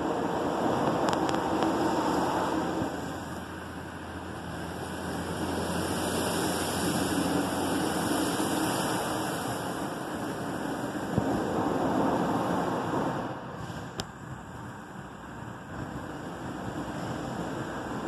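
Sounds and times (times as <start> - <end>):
car wash brushes and water spray: 0.0 - 18.0
low motor hum: 0.0 - 18.0.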